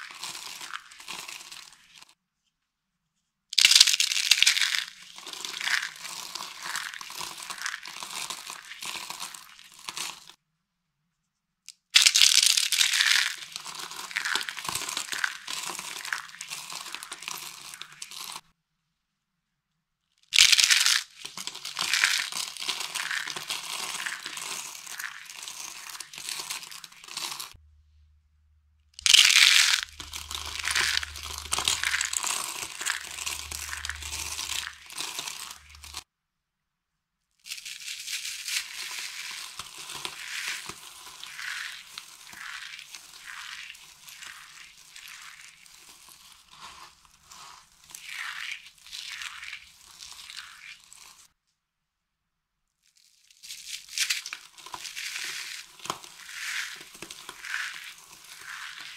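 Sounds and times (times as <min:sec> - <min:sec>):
dry soap crunching by hand: 0:00.0 - 0:02.1, 0:03.6 - 0:10.4, 0:11.8 - 0:18.5, 0:20.3 - 0:27.6, 0:29.0 - 0:36.0, 0:37.5 - 0:51.3, 0:52.8 - 0:58.9.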